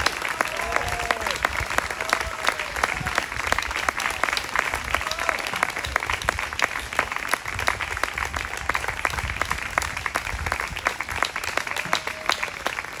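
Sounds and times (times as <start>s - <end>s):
small audience applauding: 0.0s - 13.0s.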